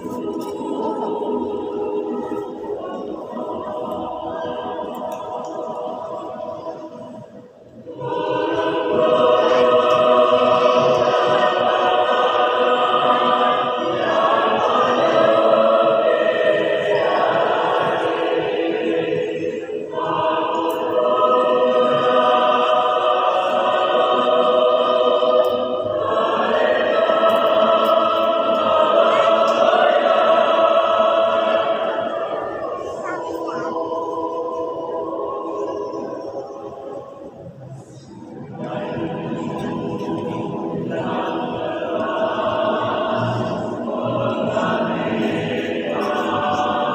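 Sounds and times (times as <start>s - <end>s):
large choir singing: 0.0s - 46.9s.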